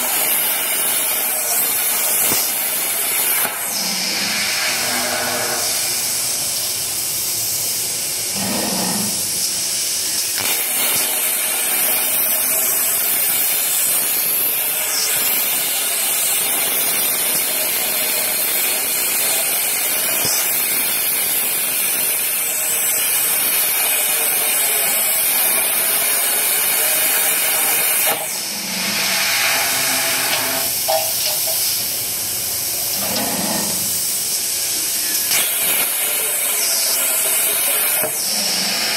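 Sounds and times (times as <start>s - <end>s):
plasma torch hissing: 0.0s - 38.9s.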